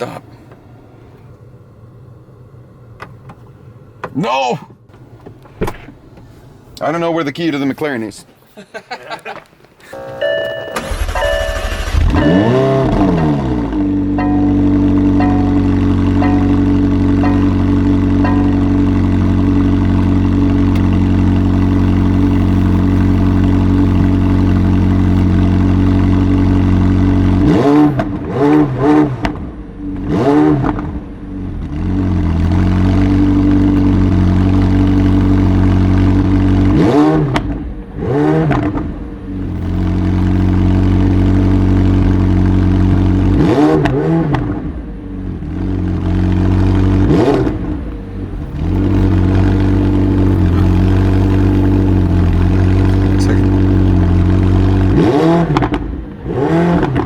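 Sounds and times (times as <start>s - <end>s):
car engine idling and revving: 0.0s - 7.0s, 9.6s - 57.0s.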